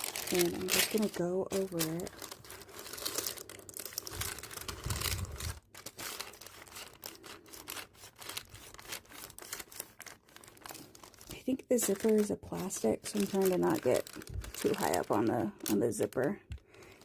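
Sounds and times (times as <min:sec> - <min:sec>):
iron pressing crinkling paper: 0:00.0 - 0:17.0.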